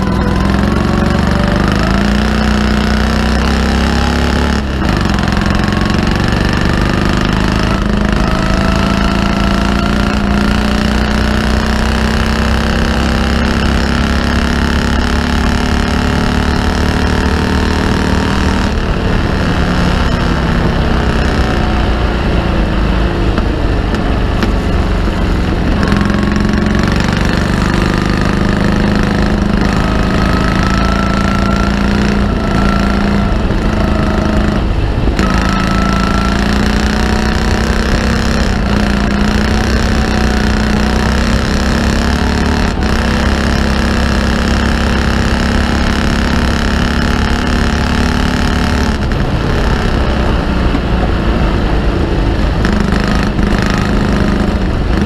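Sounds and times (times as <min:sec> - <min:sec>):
engine running hard: 0:00.0 - 0:55.0.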